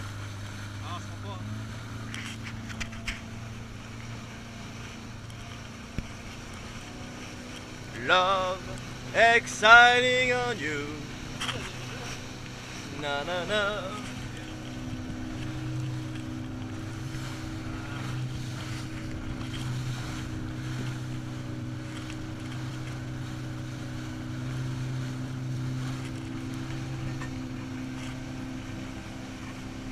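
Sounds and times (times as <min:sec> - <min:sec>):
outboard motor running: 0:00.0 - 0:29.9
water rushing: 0:00.0 - 0:29.9.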